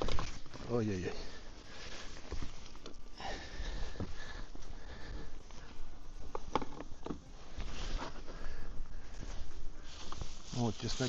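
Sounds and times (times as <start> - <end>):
rustling: 0.0 - 11.0
steady hiss: 0.0 - 11.0.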